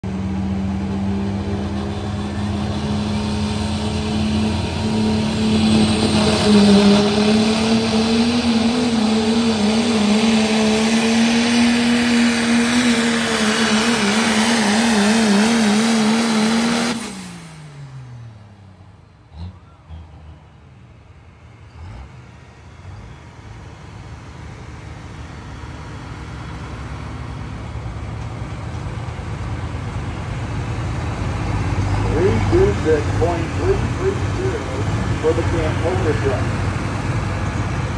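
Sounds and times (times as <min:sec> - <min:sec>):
diesel engine running under load: 0:00.0 - 0:37.9.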